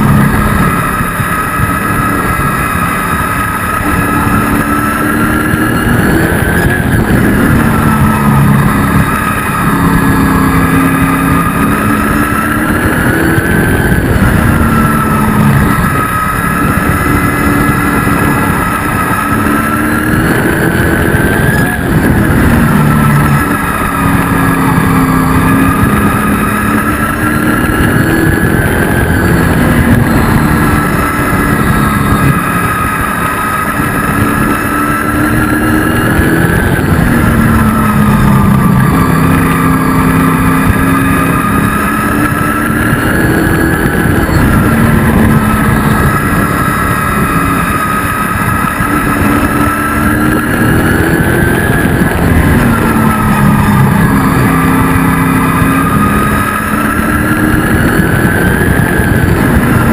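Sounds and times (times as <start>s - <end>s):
race truck engine revving: 0.0s - 59.9s.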